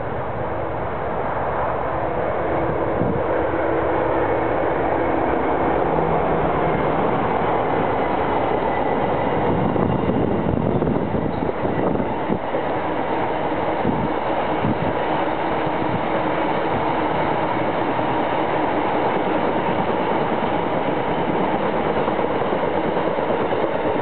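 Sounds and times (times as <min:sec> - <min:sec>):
diesel locomotive engine: 0:00.0 - 0:24.0
train rumble: 0:00.0 - 0:24.0.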